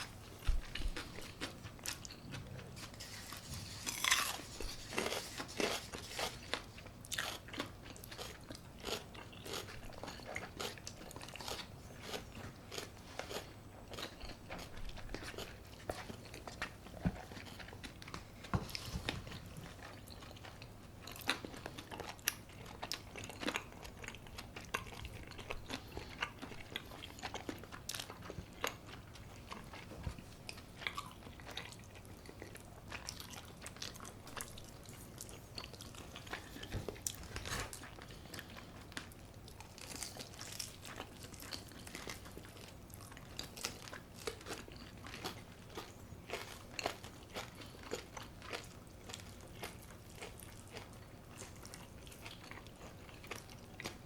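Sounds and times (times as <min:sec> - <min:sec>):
crunching and chewing food: 0:00.0 - 0:54.0.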